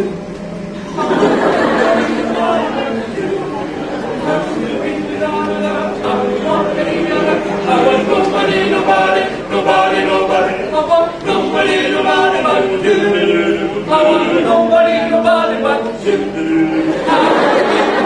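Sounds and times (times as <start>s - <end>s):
choir singing in harmony: 0.8s - 18.0s.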